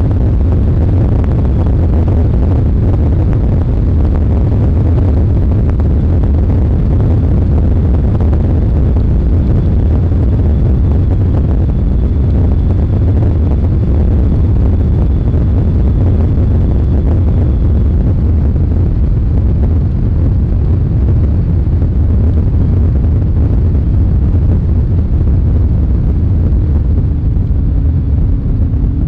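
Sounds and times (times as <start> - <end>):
outboard motor: 0.0 - 29.0
wind buffeting microphone: 0.0 - 29.0.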